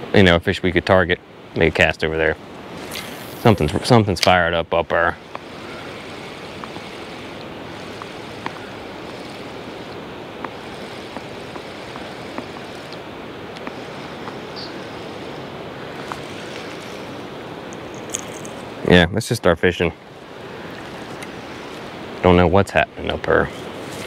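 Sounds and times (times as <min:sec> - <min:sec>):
river water flowing: 0:01.2 - 0:19.0, 0:19.6 - 0:24.0.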